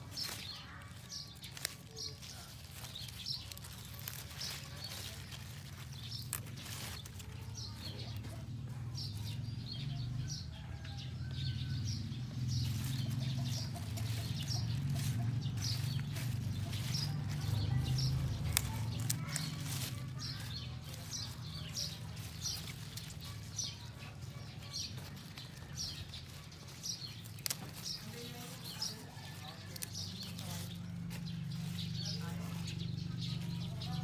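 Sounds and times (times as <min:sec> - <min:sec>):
lettuce leaves snapping: 0:00.0 - 0:08.4, 0:12.0 - 0:34.0
birds chirping: 0:00.0 - 0:34.0
leaf rustling: 0:00.0 - 0:34.0.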